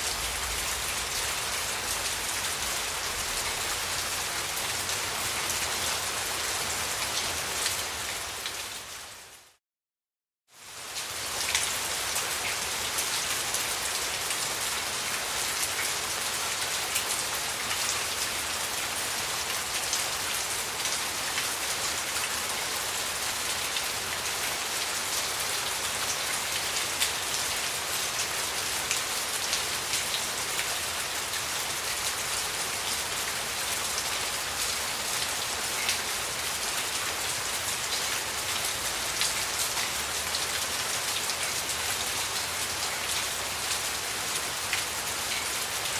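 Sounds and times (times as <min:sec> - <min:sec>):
rain falling on a surface: 0:00.0 - 0:09.6, 0:10.5 - 0:45.9.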